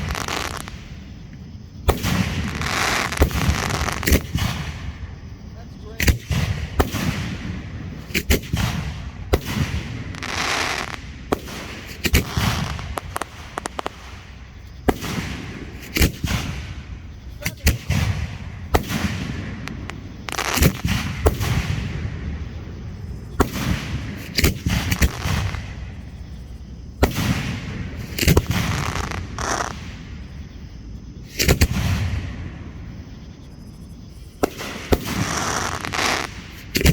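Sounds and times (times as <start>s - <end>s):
fireworks hissing crackle: 0.0s - 30.3s, 34.3s - 36.9s
fireworks bangs: 0.0s - 36.9s.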